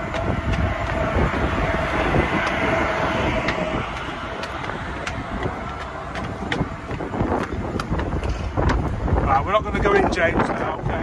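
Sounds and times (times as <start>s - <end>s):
footsteps on stairs: 0.0s - 9.9s
wind buffeting microphone: 0.0s - 11.0s.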